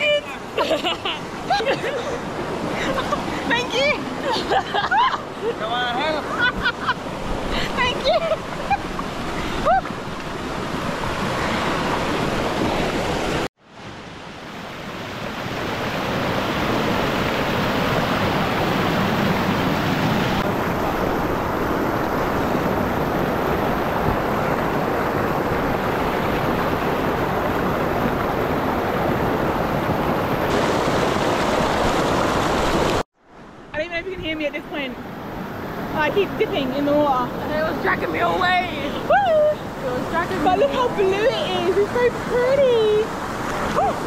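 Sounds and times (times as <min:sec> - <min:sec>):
waterfall rushing water: 0:05.2 - 0:33.6, 0:35.1 - 0:44.0.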